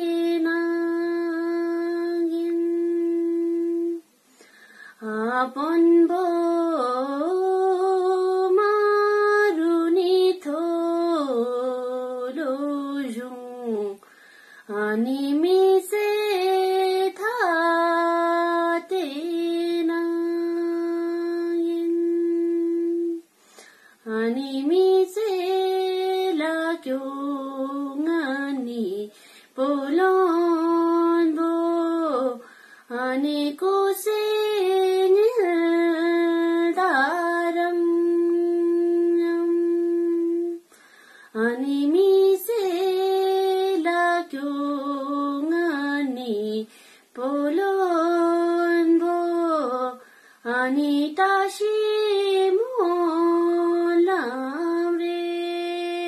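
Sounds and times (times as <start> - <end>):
woman singing unaccompanied: 0.0 - 4.2, 4.9 - 56.0.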